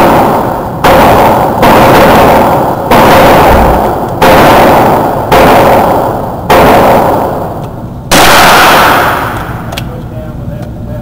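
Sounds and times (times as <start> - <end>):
rifle shots echoing indoors: 0.0 - 9.8.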